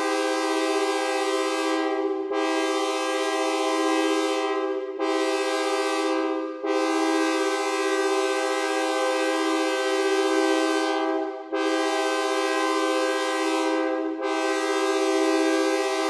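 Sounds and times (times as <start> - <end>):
synthesizer chord imitating train horn: 0.0 - 16.0.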